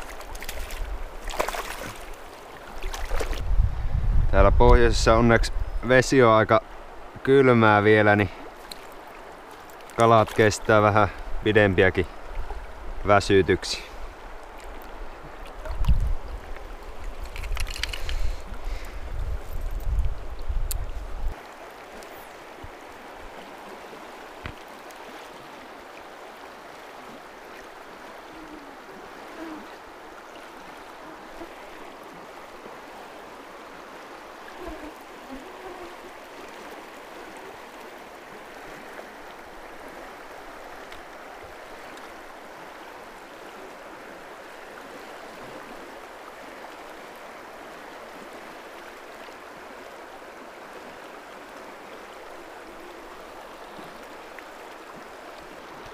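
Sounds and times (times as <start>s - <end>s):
river current rushing: 0.0s - 4.2s, 4.9s - 55.9s.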